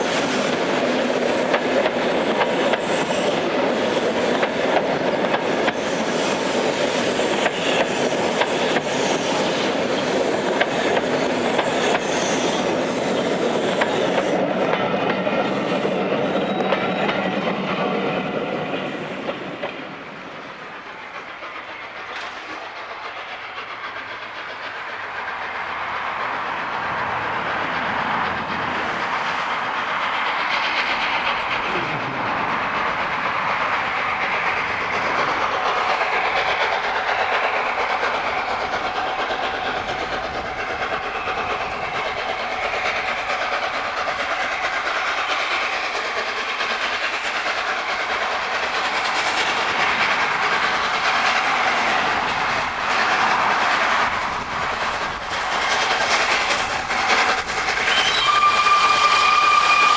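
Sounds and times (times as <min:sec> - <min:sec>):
steam locomotive chuffing: 0:00.0 - 0:59.9
train clicks and clanks: 0:00.0 - 0:59.9
wheels rumbling on rails: 0:00.0 - 0:59.9.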